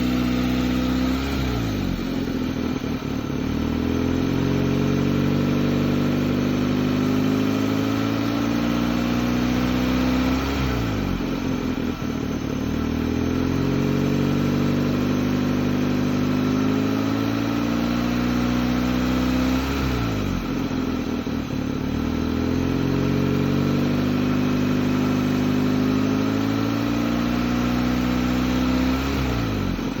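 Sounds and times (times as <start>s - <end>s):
car engine surging idle: 0.0s - 30.0s.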